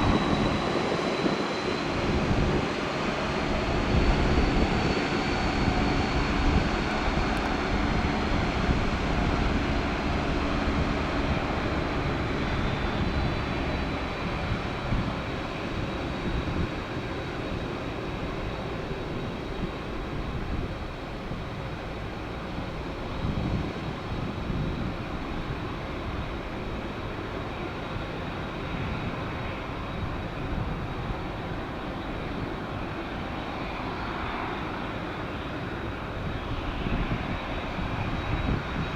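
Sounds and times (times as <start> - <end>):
jet engines rushing with whine: 0.0 - 38.9.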